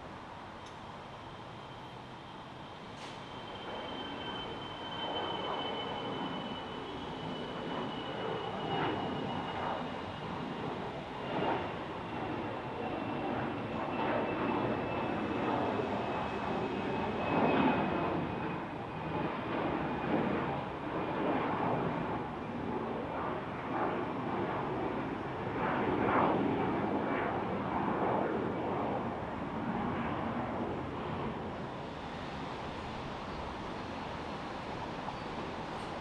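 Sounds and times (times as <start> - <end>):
faint high whine: 0.0 - 26.0, 27.8 - 36.0
airliner engines rushing: 0.0 - 36.0.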